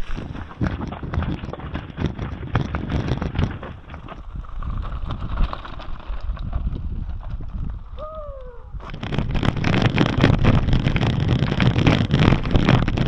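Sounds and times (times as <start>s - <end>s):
bicycle rattling: 0.0s - 8.0s, 8.8s - 13.0s
bicycle tyres crunching over stones: 0.0s - 8.0s, 8.8s - 13.0s.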